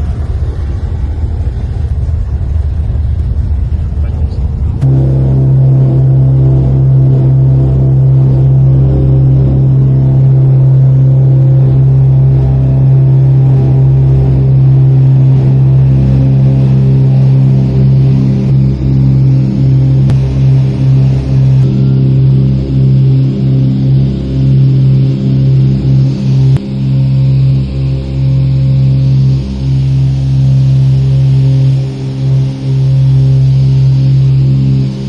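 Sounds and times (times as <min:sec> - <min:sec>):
airplane engine in cabin: 0:00.0 - 0:35.0.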